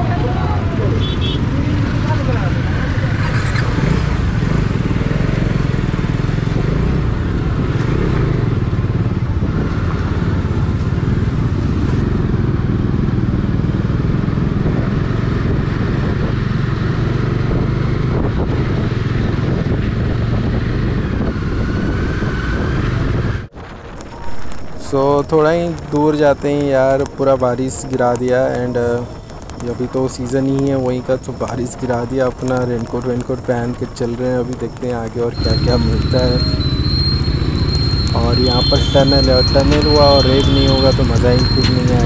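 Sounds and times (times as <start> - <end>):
motorcycle engine running: 0.0 - 23.5, 25.6 - 42.0
road and wind noise: 0.0 - 42.0.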